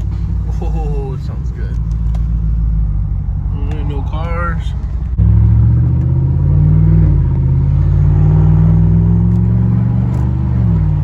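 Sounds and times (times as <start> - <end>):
deep car exhaust rumble: 0.0 - 11.0.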